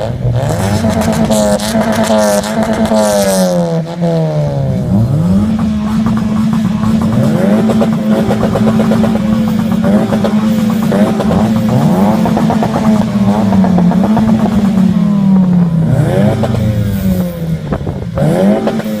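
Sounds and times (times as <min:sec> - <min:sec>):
car engine revving to limiter: 0:00.0 - 0:19.0.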